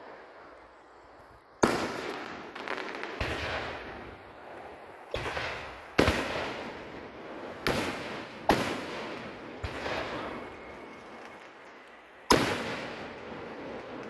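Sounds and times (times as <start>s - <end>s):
firework shells booming: 1.6s - 14.0s.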